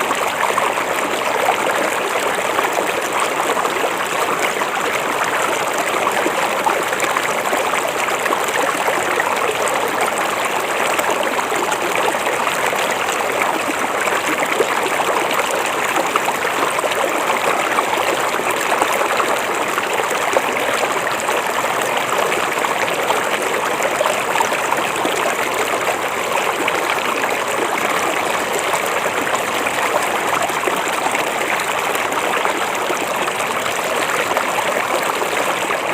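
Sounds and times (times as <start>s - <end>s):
river water flowing: 0.0s - 35.9s.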